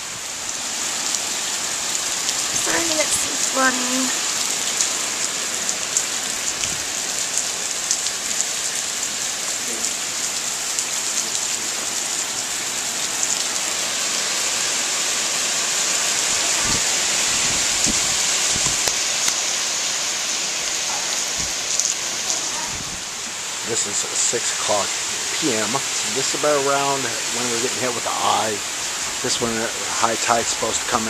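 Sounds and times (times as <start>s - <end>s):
heavy rain on lawn and concrete: 0.0s - 31.0s.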